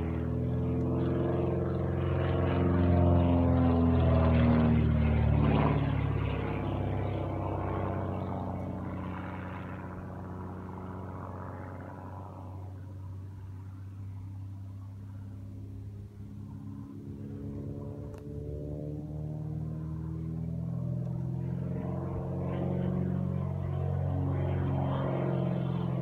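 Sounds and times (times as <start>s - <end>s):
propeller plane droning overhead: 0.0s - 26.0s.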